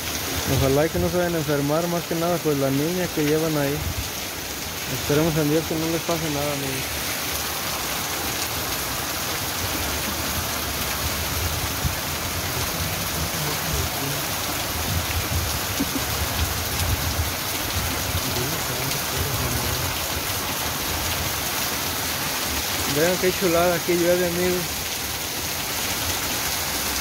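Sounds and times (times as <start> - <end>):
heavy rain pouring: 0.0 - 27.0
water running off roof: 0.0 - 27.0.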